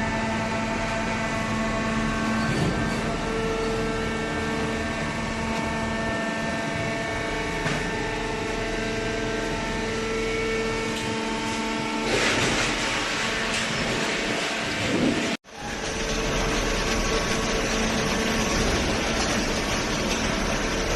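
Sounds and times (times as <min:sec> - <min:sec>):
motor and pump hum: 0:00.0 - 0:20.9.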